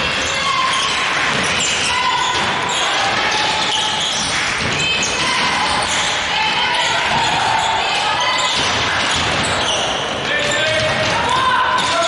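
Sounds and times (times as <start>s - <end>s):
sneaker squeaks: 0.0s - 12.0s
voices in a gym: 0.0s - 12.0s.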